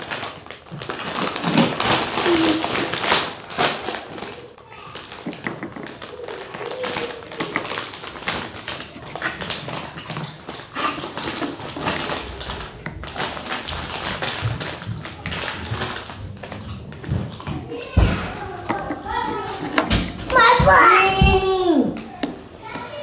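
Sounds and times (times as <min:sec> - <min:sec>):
popcorn chewing and crunching: 0:00.0 - 0:19.9.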